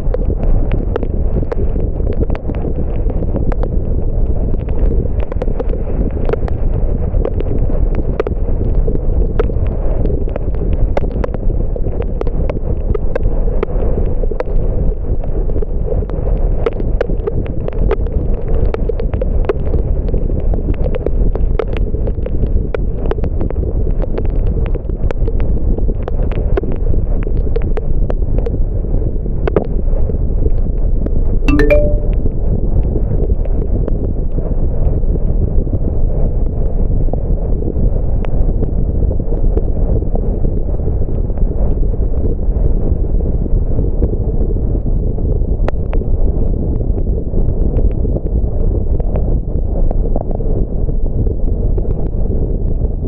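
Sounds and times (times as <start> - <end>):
car tyre and wind rumble: 0.0 - 31.2, 35.0 - 53.0.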